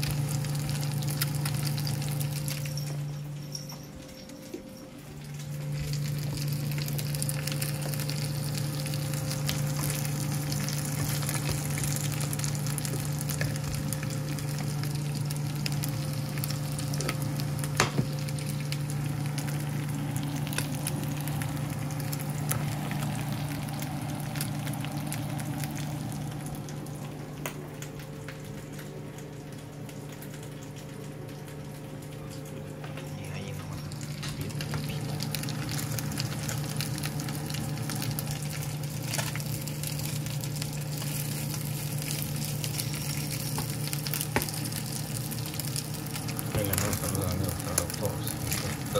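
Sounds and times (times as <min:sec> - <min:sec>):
chicken sizzling in a pan: 0:00.0 - 0:03.1, 0:05.5 - 0:26.8, 0:33.7 - 0:48.9
steady low hum: 0:00.0 - 0:48.9.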